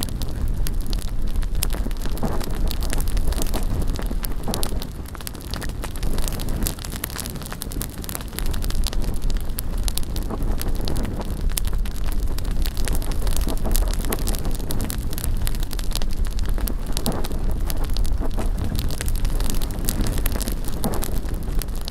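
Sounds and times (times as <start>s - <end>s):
bonfire crackling and popping: 0.0s - 21.9s
wind rumble on microphone: 0.0s - 21.9s.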